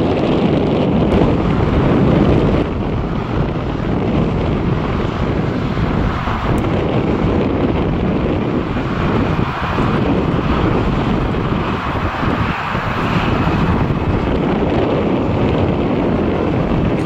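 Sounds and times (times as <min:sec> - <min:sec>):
jet engines rumbling at takeoff: 0:00.0 - 0:17.0
wind buffeting microphone: 0:00.0 - 0:17.0.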